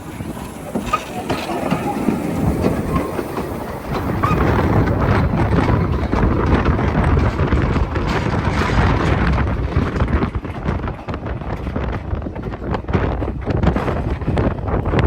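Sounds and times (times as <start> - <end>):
train wheels clicking on track: 0.0 - 15.0.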